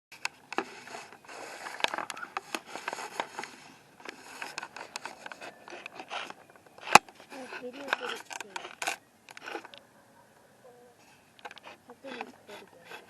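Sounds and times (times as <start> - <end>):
mechanical scraping: 0.2 - 13.0.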